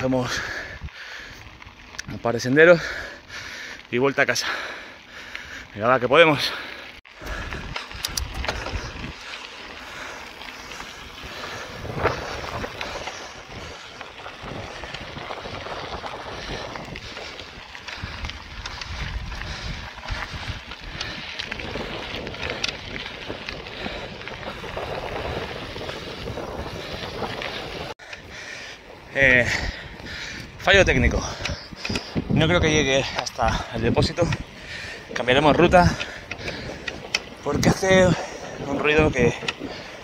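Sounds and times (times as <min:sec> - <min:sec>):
wind buffeting microphone: 0:00.0 - 0:03.8, 0:07.1 - 0:40.0
bike rolling on dirt track: 0:00.0 - 0:40.0.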